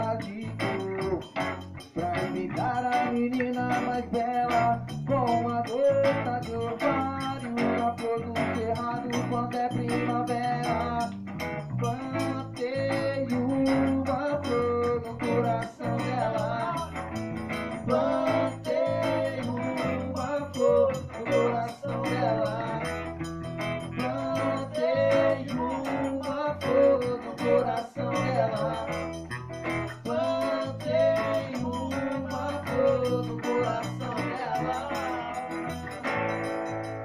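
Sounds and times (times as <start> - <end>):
guitar melody: 0.0 - 37.0.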